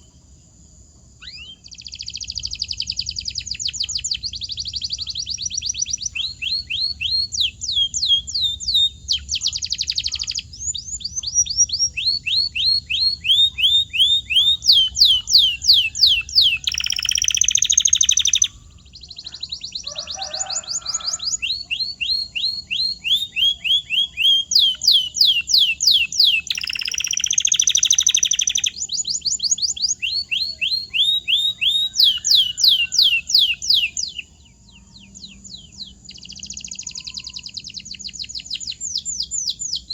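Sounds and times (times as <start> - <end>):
canary singing trills: 1.1 - 39.9.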